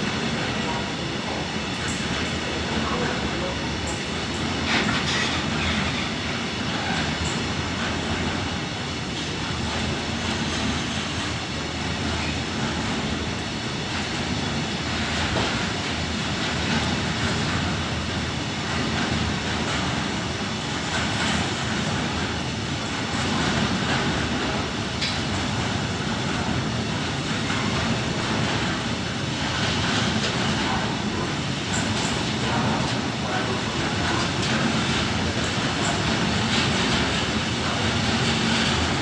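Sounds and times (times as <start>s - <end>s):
train wheels running on rails: 0.0s - 39.0s.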